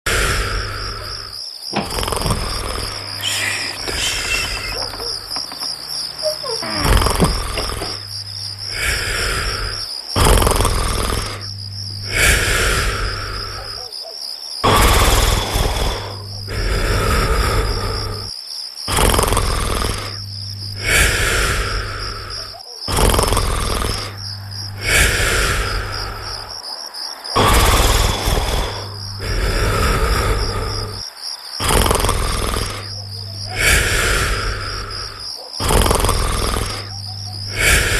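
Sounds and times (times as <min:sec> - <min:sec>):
person snoring: 0:00.1 - 0:13.9, 0:14.6 - 0:18.3, 0:18.9 - 0:26.6, 0:27.3 - 0:37.9
crickets chirping: 0:00.1 - 0:37.9.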